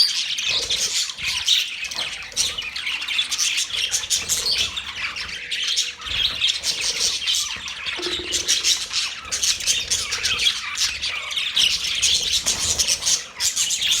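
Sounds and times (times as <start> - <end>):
budgerigars chirping and chattering: 0.0 - 14.0.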